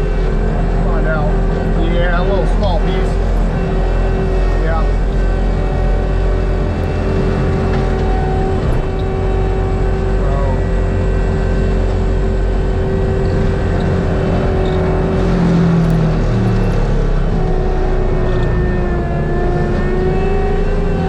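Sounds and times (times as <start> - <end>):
forestry mulcher engine and drum whine: 0.0 - 21.0.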